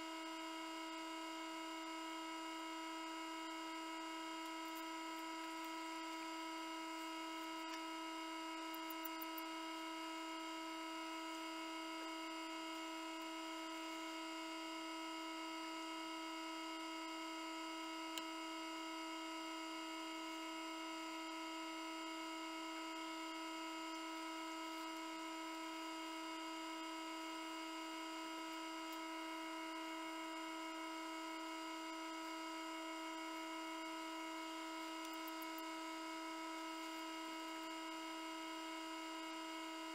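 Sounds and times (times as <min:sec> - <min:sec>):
incubator electric hum: 0:00.0 - 0:39.9.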